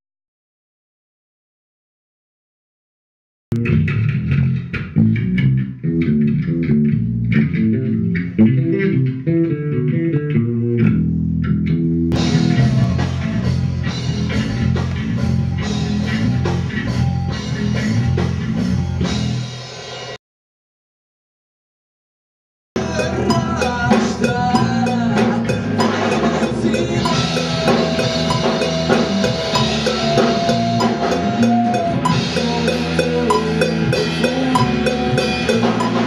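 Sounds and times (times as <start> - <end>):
electric bass guitar line: 3.5 - 19.6, 22.8 - 36.0
rock band playing: 3.6 - 20.2, 22.8 - 36.0.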